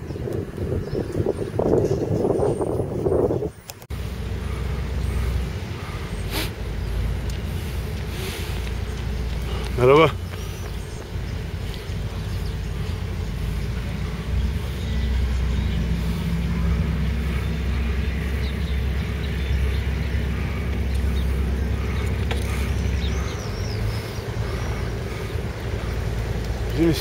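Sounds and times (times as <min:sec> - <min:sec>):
road traffic: 0:00.0 - 0:27.0
wind: 0:00.0 - 0:27.0.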